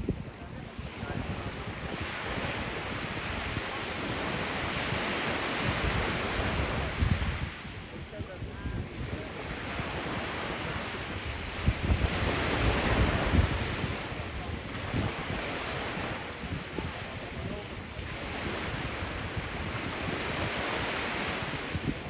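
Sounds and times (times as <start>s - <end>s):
sea surf washing onto beach: 0.0s - 22.0s
wind buffeting microphone: 0.0s - 22.0s.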